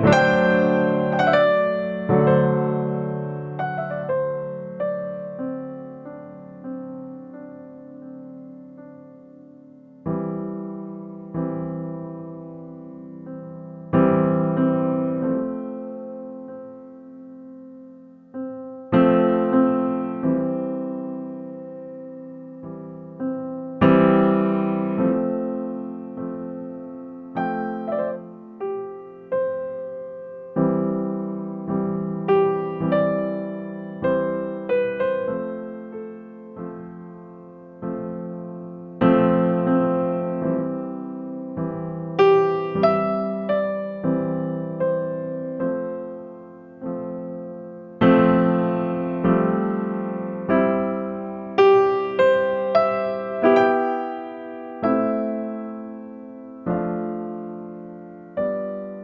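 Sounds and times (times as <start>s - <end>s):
slow solo electric piano: 0.0s - 59.0s.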